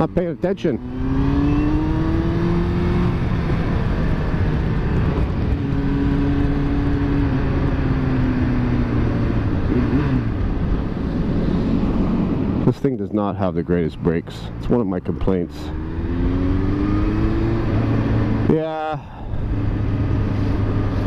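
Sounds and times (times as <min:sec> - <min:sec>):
motorcycle engine accelerating: 0:00.0 - 0:12.6, 0:14.0 - 0:21.0.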